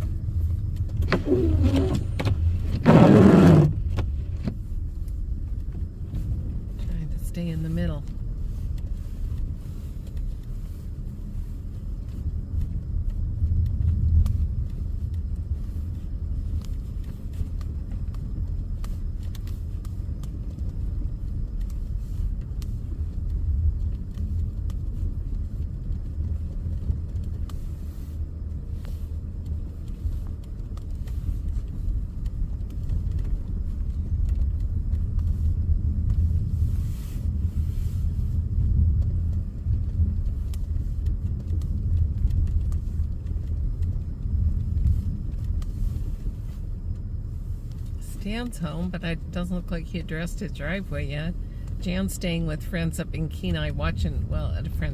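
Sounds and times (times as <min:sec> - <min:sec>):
car engine and tyres droning: 0:00.0 - 0:54.9.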